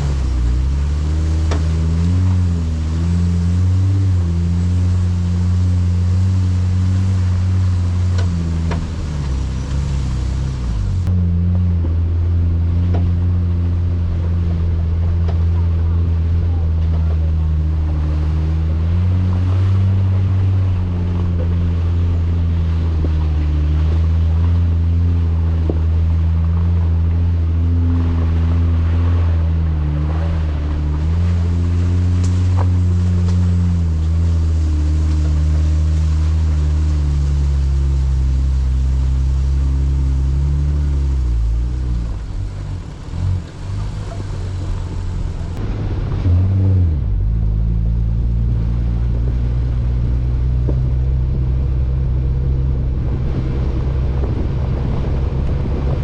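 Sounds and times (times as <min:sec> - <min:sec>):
off-road vehicle engine revving: 0:00.0 - 0:56.0.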